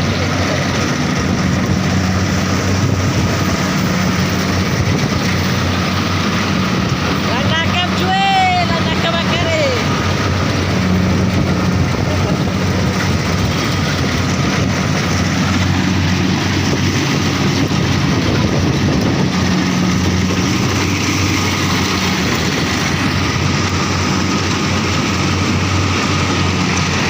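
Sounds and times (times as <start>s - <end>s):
combine harvester engine running: 0.0s - 27.0s.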